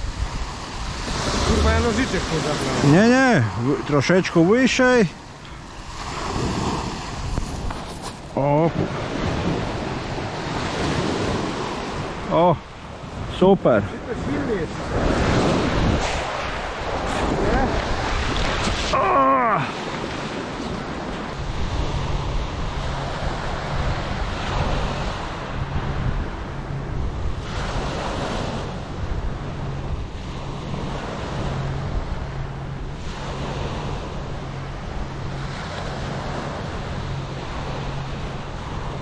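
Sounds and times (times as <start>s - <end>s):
wind rumbling on microphone: 0.0s - 4.3s, 5.2s - 39.0s.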